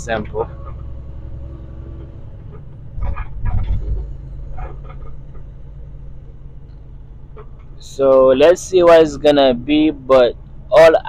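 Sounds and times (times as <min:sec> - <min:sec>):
low rumble with knocks: 0:00.0 - 0:10.8
truck engine running: 0:00.0 - 0:11.0.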